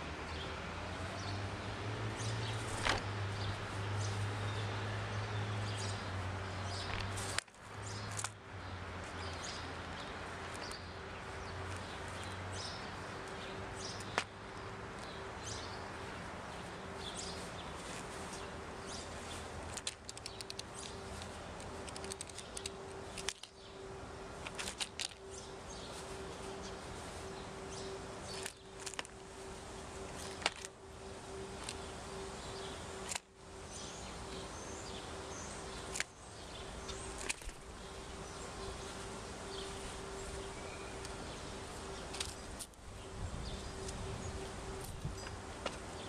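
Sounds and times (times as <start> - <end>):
steady faint hum: 0.0 - 46.0.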